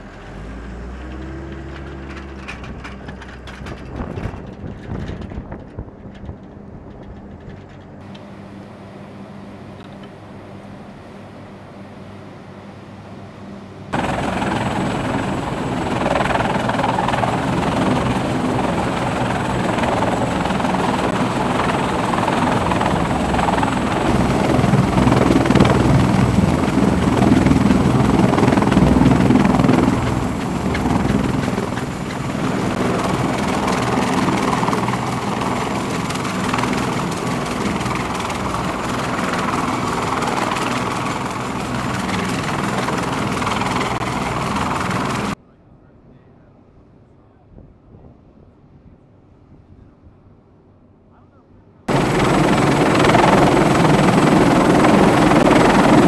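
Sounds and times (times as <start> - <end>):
helicopter rotors and turbines: 0.0 - 45.4, 51.9 - 56.0.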